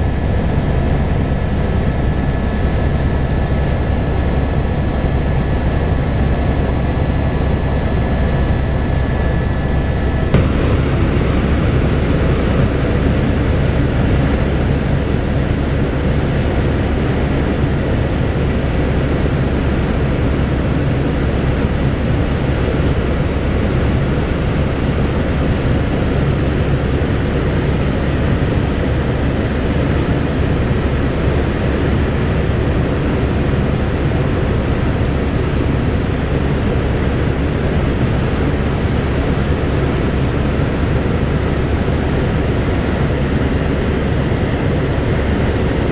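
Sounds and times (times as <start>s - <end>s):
helicopter rotor and engine: 0.0s - 45.9s.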